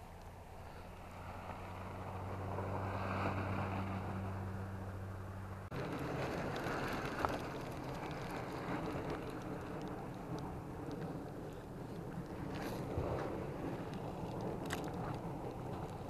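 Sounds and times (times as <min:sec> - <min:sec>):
distant road traffic: 0:00.0 - 0:16.0
low hum: 0:00.0 - 0:16.0
wind: 0:00.0 - 0:16.0.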